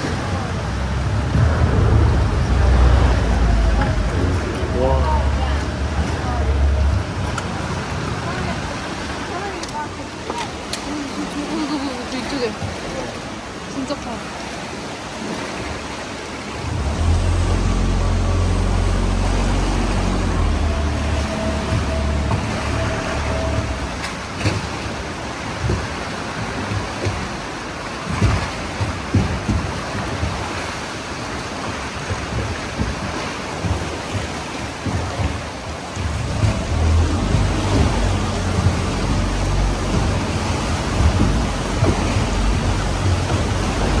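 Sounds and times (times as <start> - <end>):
boat motor droning: 0.0 - 44.0
water slapping against hull: 0.0 - 44.0.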